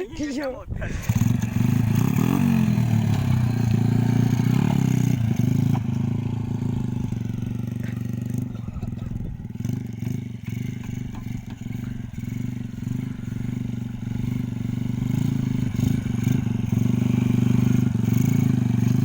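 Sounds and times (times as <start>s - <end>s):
motorcycle engine under throttle: 0.8s - 19.0s.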